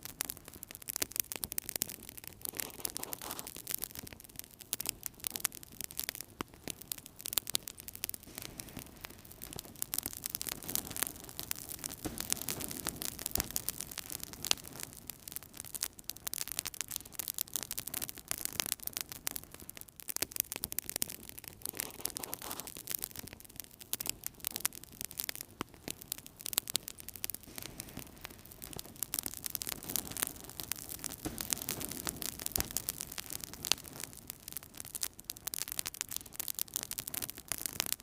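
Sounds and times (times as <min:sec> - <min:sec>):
low rush of flames: 0:00.0 - 0:38.0
wood fire crackling and popping: 0:00.0 - 0:38.0.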